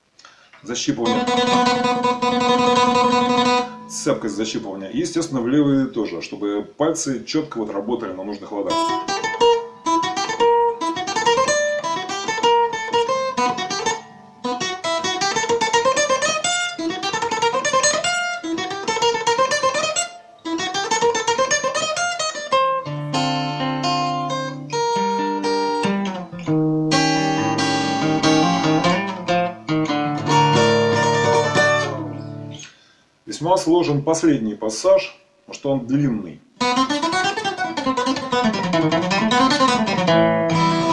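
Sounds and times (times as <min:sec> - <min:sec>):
acoustic guitar playing: 0:00.0 - 0:06.7, 0:07.7 - 0:33.0, 0:36.6 - 0:40.9.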